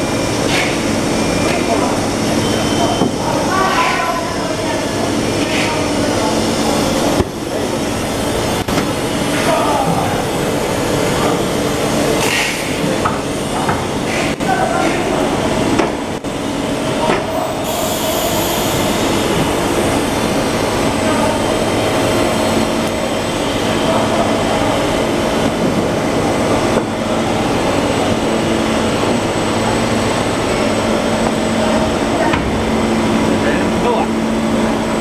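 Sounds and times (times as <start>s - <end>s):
loud steady machine noise: 0.0s - 35.0s.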